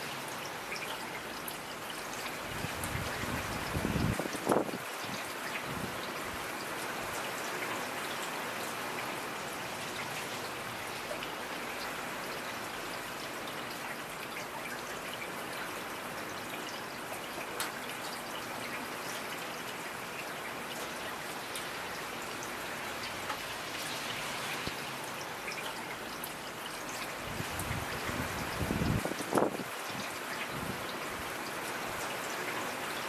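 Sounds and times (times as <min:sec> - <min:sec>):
rain pattering on a surface: 0:00.0 - 0:33.0.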